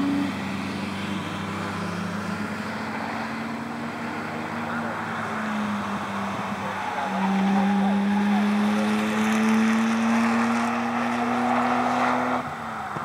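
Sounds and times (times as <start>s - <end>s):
car engine accelerating past: 0.0s - 13.0s.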